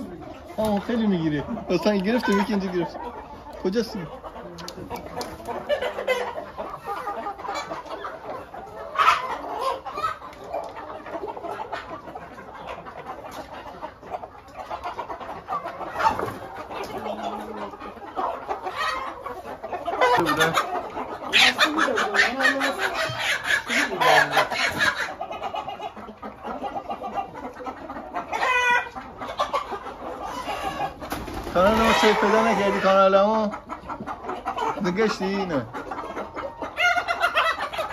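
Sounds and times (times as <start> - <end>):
chickens clucking and calling: 0.0 - 37.9.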